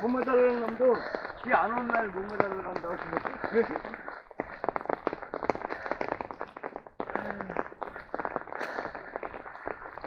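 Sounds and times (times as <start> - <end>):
raindrops pattering: 0.0 - 10.0.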